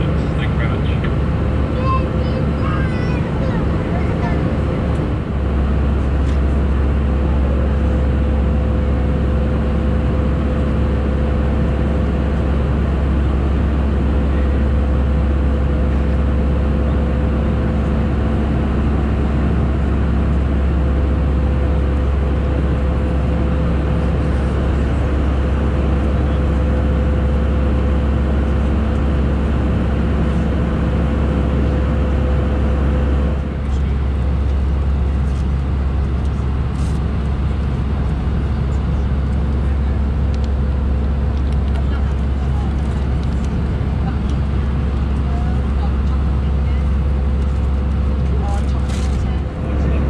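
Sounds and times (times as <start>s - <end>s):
airplane cabin drone: 0.0s - 50.0s.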